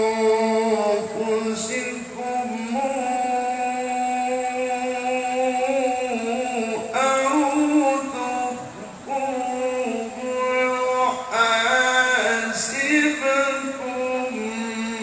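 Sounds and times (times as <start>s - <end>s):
man chanting through loudspeakers: 0.0s - 15.0s.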